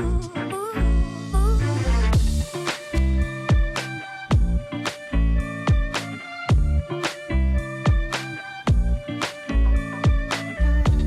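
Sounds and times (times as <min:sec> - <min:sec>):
instrumental soul-funk music: 0:00.0 - 0:11.0.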